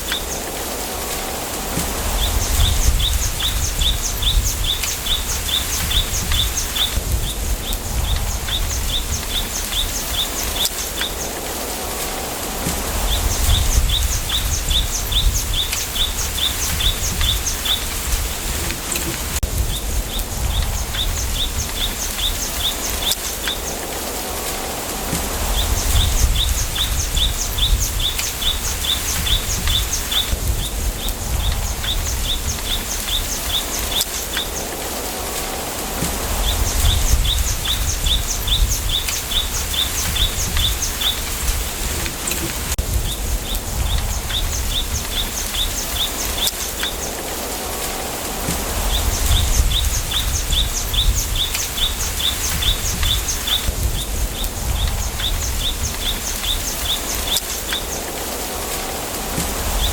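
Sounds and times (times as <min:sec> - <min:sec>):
low wind rumble: 0:00.0 - 0:59.9
steady hiss: 0:00.0 - 0:59.9.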